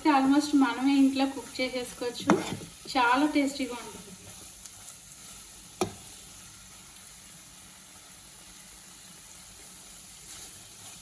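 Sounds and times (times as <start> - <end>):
liver sizzling in a pan: 0.0 - 11.0.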